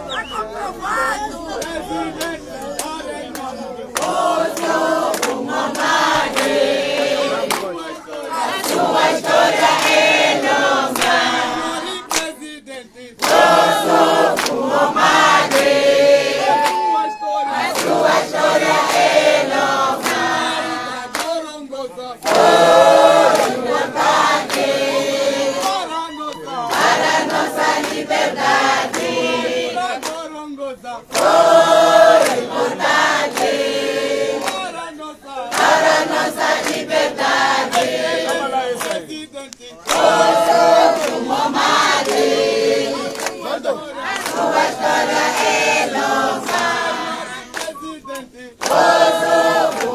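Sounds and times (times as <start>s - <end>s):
crowd singing unaccompanied: 0.0s - 49.9s.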